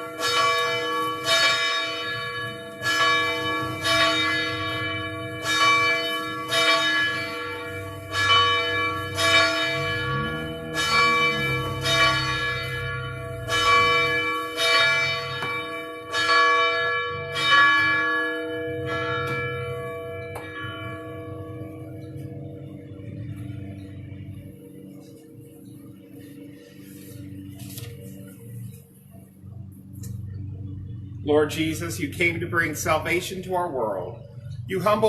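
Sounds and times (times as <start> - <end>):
church bell ringing: 0.0 - 35.0.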